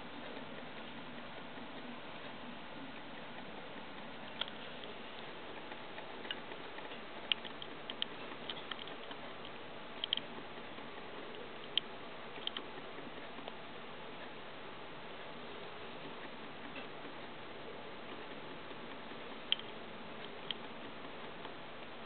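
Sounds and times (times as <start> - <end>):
faint irregular clicks: 0.0 - 22.0
steady hiss: 0.0 - 22.0.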